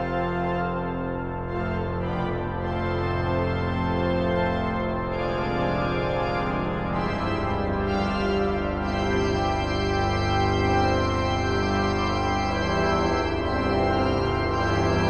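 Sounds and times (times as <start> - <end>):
pipe organ sustained chords: 0.0 - 15.0.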